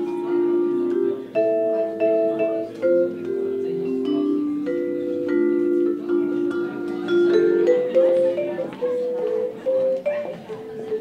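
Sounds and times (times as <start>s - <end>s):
ringing notes over held chords: 0.0s - 11.0s.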